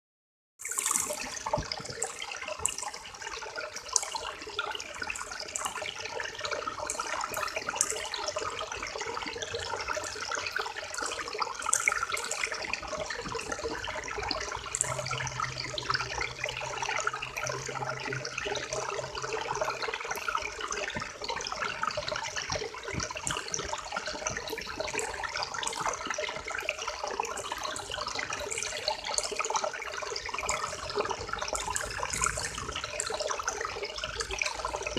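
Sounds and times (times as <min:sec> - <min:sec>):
small water splashes: 0:00.6 - 0:34.9.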